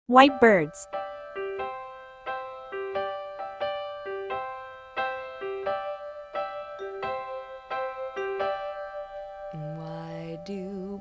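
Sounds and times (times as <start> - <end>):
piano notes and chords: 0.1 - 11.0.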